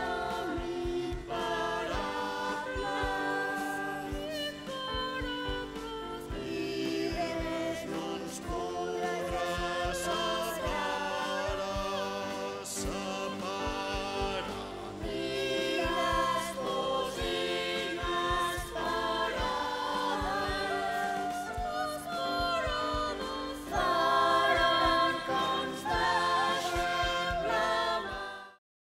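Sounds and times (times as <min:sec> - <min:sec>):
choir singing with band: 0:00.0 - 0:28.6.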